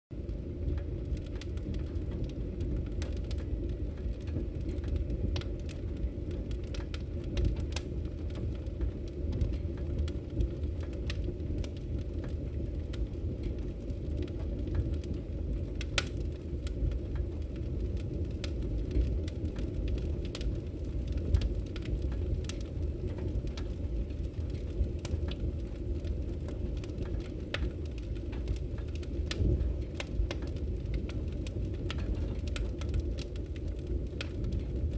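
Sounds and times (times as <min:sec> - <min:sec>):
fire burning rumble: 0:00.1 - 0:34.9
fire popping and crackling: 0:00.1 - 0:34.9.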